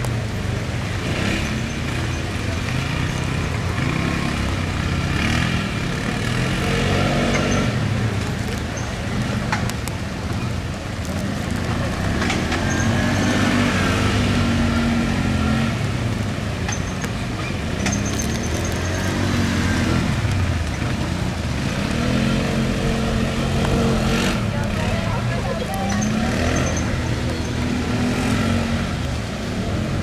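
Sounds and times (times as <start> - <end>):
quad bike engine revving: 0.4 - 9.6, 11.0 - 16.0, 16.7 - 30.0.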